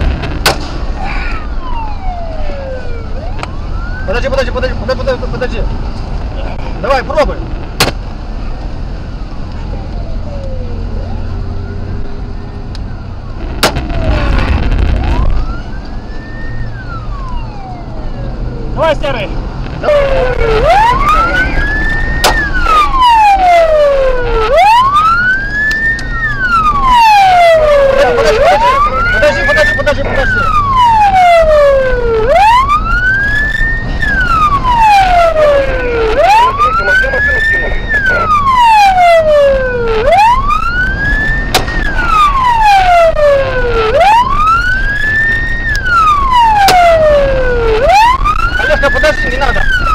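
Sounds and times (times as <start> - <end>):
police siren wailing: 0.0 - 5.7, 8.2 - 49.9
car engine and road noise: 0.0 - 49.9.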